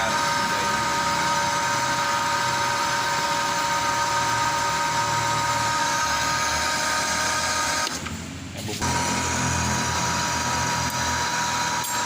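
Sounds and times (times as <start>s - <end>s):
metal lathe whining: 0.0s - 8.1s, 8.8s - 12.0s.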